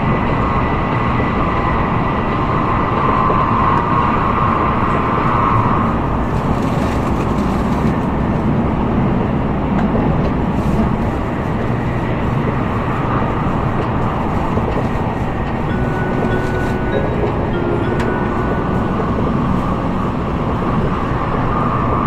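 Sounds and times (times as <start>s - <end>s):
train cabin rolling and wind noise: 0.0s - 22.0s.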